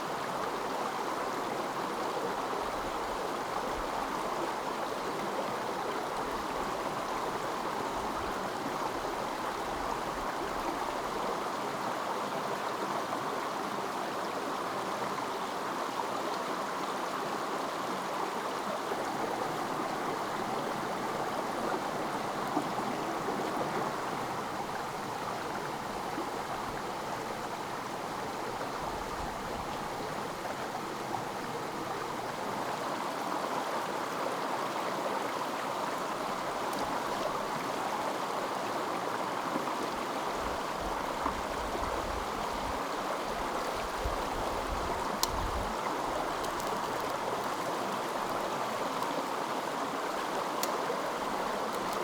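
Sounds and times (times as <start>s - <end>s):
stream water rushing and gurgling: 0.0s - 52.0s.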